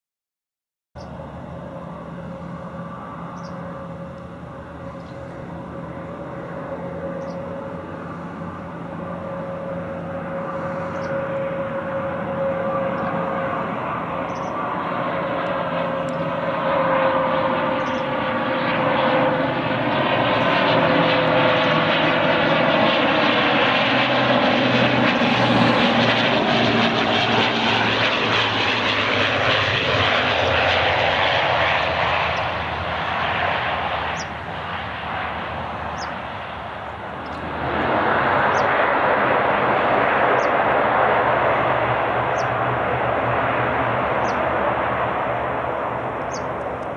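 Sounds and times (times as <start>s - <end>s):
turboprop airliner approaching: 1.0s - 46.9s.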